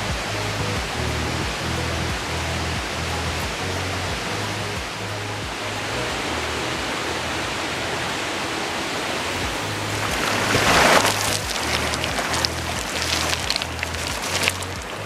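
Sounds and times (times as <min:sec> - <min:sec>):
background music with bass line: 0:00.0 - 0:15.0
steady hiss: 0:00.0 - 0:15.0.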